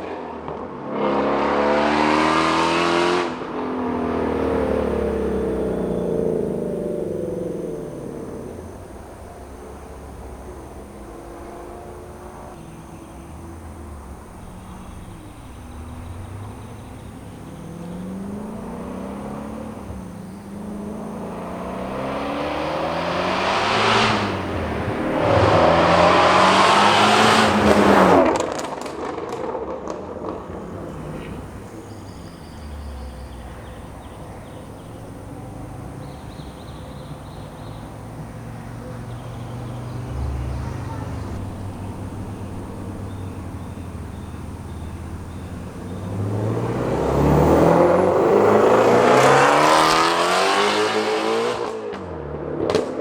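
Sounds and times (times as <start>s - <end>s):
car engine accelerating: 0.0s - 53.0s
engine low rumble: 3.4s - 51.3s.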